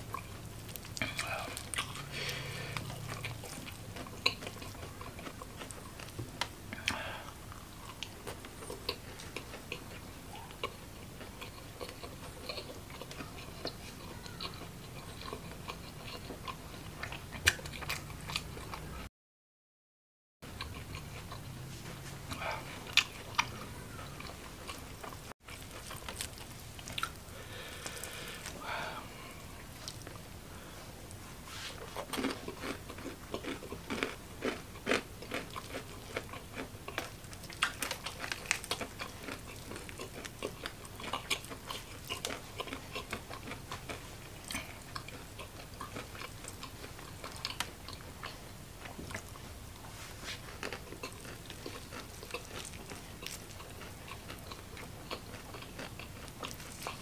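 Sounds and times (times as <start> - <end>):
person chewing crunchy chicken: 0.0 - 19.1, 20.5 - 57.0.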